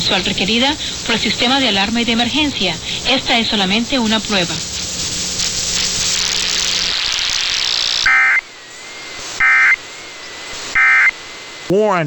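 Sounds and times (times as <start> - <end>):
digital data tones burst: 0.0 - 11.6
radio static hiss: 0.0 - 12.0.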